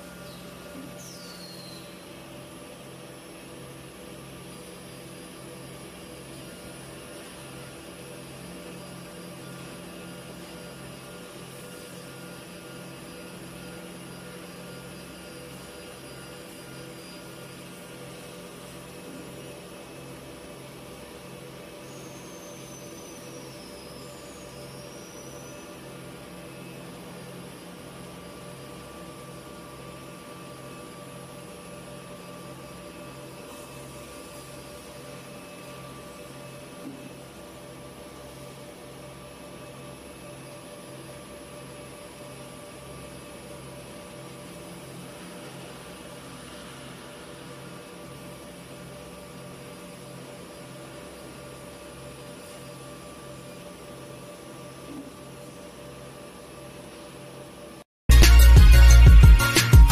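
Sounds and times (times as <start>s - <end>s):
machine whining tones: 0.0s - 59.9s.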